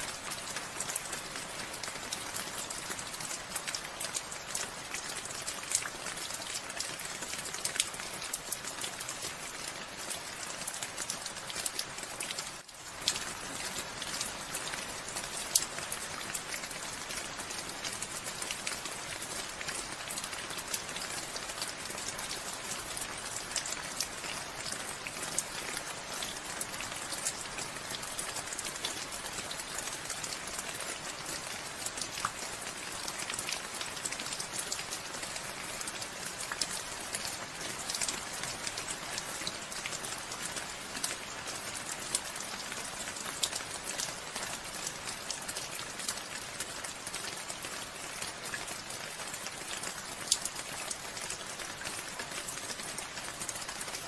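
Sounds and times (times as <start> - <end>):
raindrops ticking on surfaces: 0.0 - 54.0
steady rain falling: 0.0 - 54.0.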